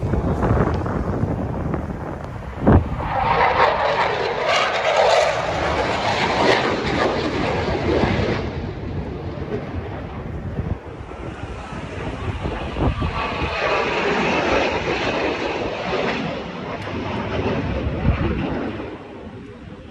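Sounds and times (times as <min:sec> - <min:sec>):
jet aircraft flying past: 0:00.0 - 0:19.9
wind buffeting microphone: 0:00.0 - 0:19.9.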